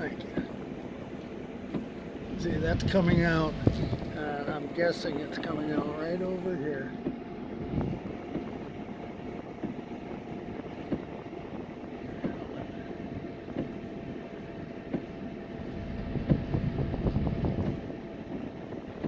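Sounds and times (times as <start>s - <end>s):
engine and tyre rumble: 0.0s - 19.0s.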